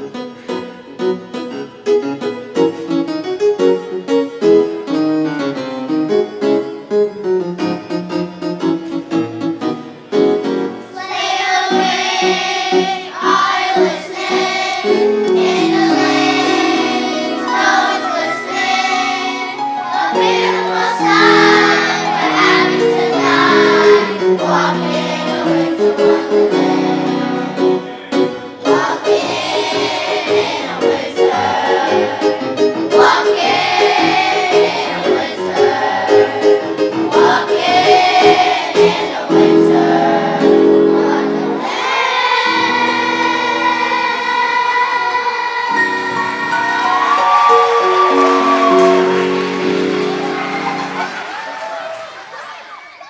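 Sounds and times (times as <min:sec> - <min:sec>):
piano accompaniment: 0:00.0 - 0:52.4
children's choir singing: 0:06.6 - 0:53.0.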